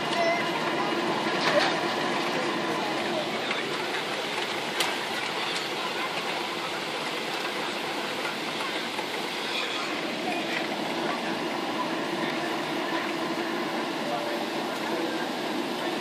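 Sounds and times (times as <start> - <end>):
rush of jet engines and airflow: 0.0 - 16.0.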